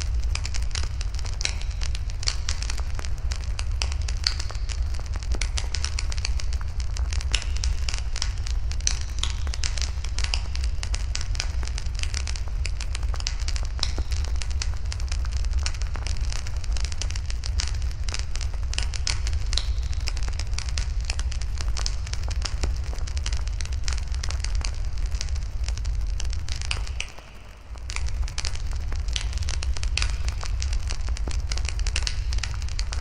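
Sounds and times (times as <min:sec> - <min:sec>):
steady low rumble: 0:00.0 - 0:33.0
wood fire crackling and popping: 0:00.0 - 0:33.0.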